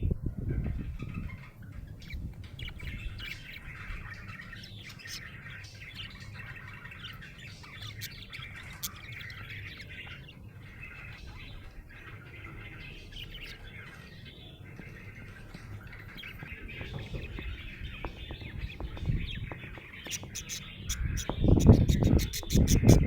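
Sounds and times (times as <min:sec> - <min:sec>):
budgerigar chirping and chattering: 0:00.5 - 0:23.0.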